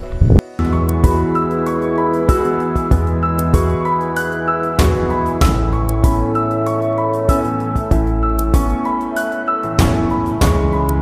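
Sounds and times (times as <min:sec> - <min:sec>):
instrumental music with soft beat: 0:00.0 - 0:11.0.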